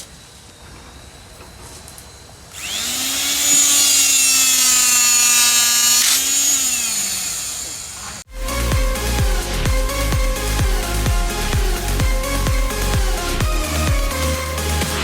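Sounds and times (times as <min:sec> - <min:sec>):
electric motor whining: 0:02.5 - 0:15.0.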